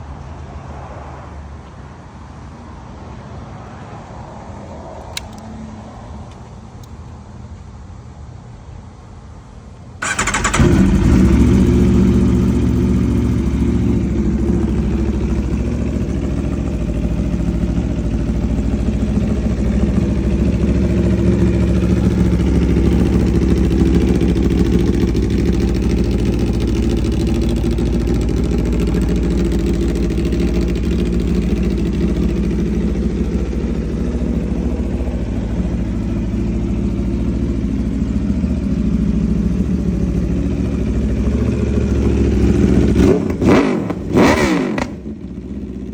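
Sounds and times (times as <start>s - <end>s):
motorcycle engine idling: 6.3s - 45.9s.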